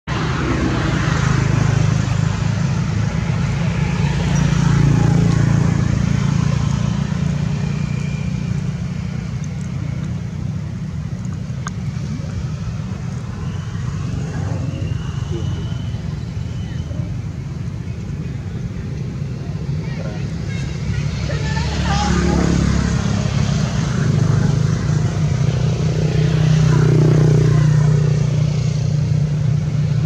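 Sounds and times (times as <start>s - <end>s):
low engine rumble: 0.1s - 30.0s.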